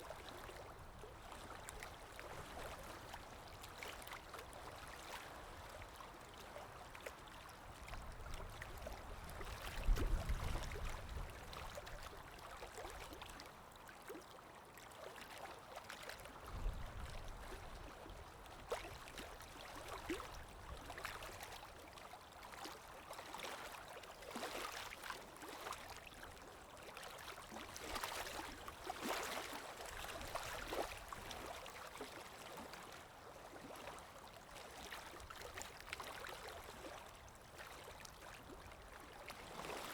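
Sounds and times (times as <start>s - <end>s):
muffled moving water: 0.0s - 39.9s.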